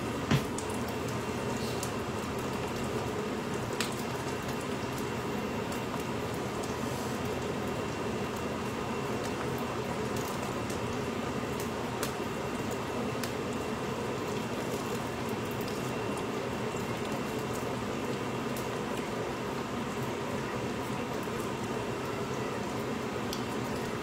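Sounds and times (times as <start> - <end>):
oil sizzling in a pot: 0.0 - 24.0.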